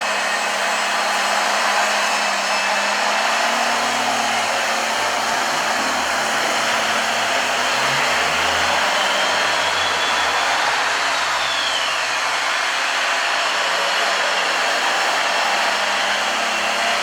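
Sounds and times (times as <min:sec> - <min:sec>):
electric motors whirring: 0:00.4 - 0:17.0.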